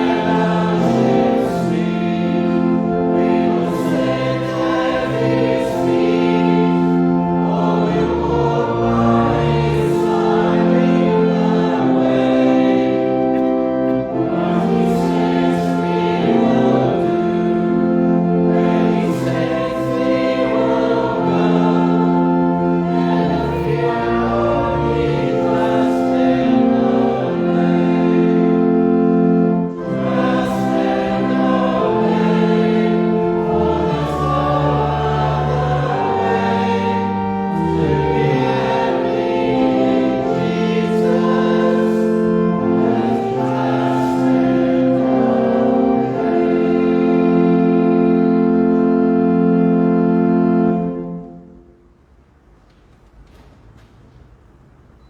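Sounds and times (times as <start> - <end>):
choir singing a hymn: 0.0 - 51.6.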